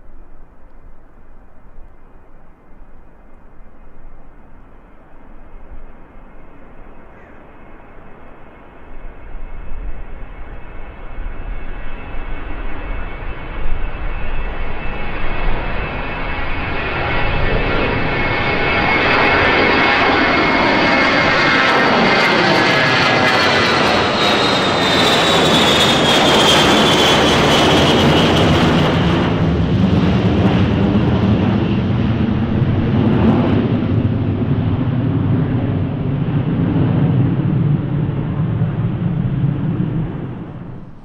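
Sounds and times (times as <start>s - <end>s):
deep jet rumble: 0.0s - 41.0s
high engine whine: 0.0s - 41.0s
jet taking off: 0.0s - 41.0s.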